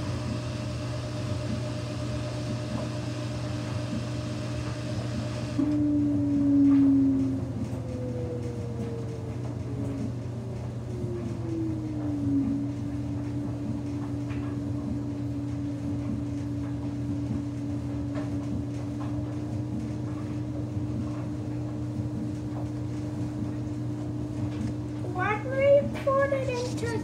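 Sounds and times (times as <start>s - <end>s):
washing machine motor whine: 0.0s - 27.0s.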